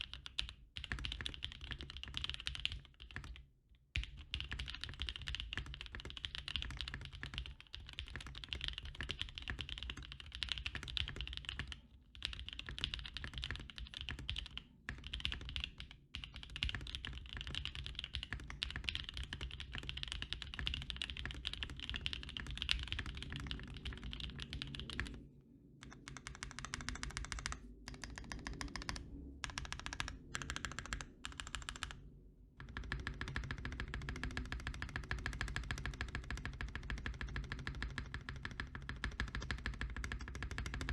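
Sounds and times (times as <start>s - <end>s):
fast typing on mechanical keyboard: 0.0s - 25.2s, 25.8s - 32.0s, 32.6s - 40.9s.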